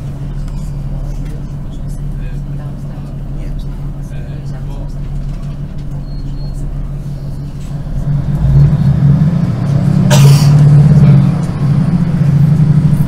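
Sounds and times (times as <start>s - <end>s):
train diesel engine drone: 0.0s - 13.0s.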